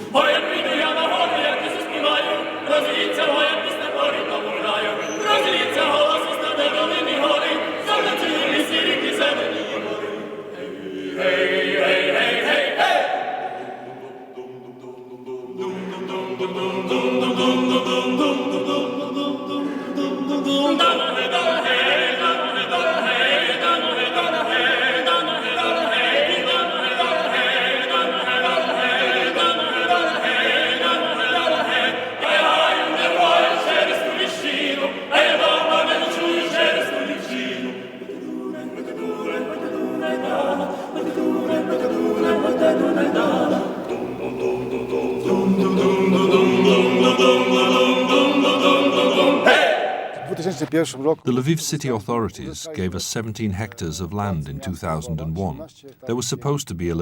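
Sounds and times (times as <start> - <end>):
choir singing: 0.0 - 50.7.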